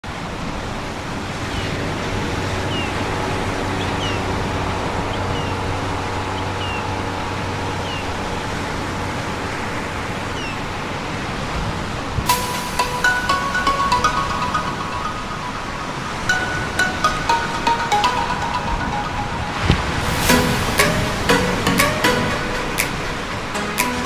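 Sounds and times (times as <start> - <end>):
sea surf washing ashore: 0.1 - 24.0.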